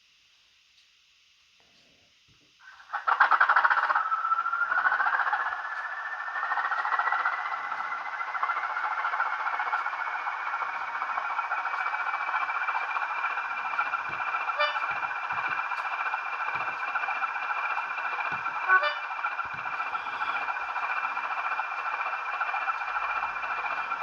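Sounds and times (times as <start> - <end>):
high-pitched whine: 2.6 - 24.0
diesel engine starting and idling: 2.7 - 24.0.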